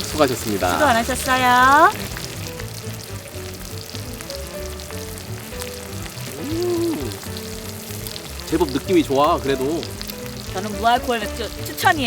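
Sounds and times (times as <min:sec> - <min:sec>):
food sizzling on grill: 0:00.0 - 0:12.0.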